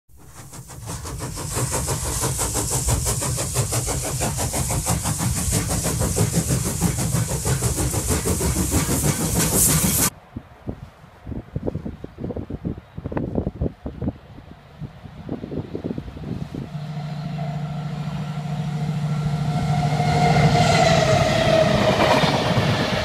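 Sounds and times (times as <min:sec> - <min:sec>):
railway engine rumbling: 0:00.1 - 0:23.0.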